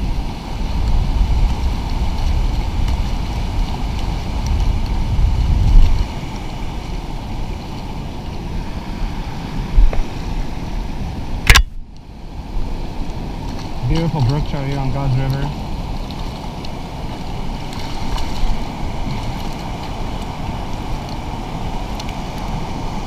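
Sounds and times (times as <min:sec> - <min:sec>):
rushing river water: 0:00.0 - 0:23.0
wind rumbling on microphone: 0:00.0 - 0:23.0.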